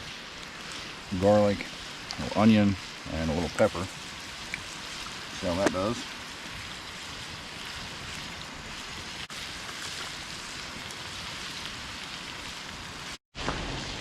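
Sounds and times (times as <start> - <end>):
chicken sizzling in a skillet: 0.0 - 14.0.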